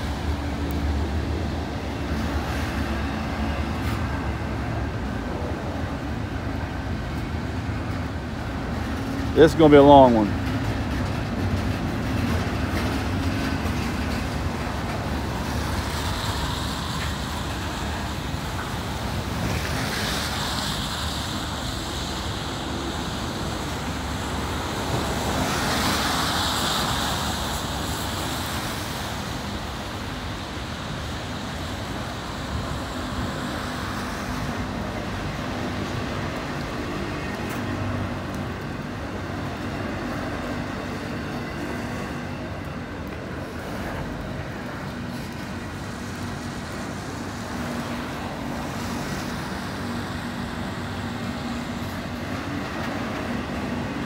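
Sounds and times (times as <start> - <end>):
freight train rumbling: 0.0 - 54.0
vehicles passing on wet road: 0.0 - 54.0.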